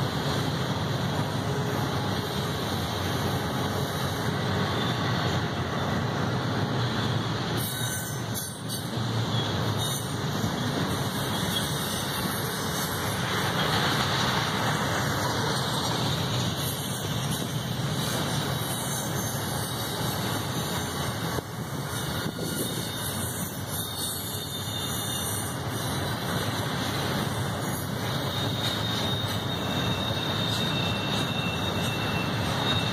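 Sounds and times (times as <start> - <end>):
freight train wheels on rails: 0.0 - 32.9.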